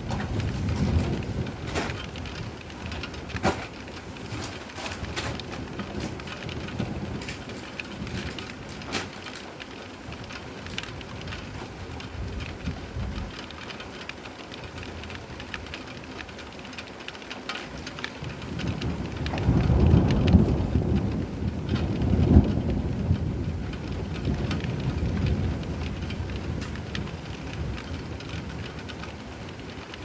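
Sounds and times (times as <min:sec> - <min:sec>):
thunder rumbling: 0:00.0 - 0:14.0, 0:17.7 - 0:30.0
rain pattering: 0:00.0 - 0:30.0.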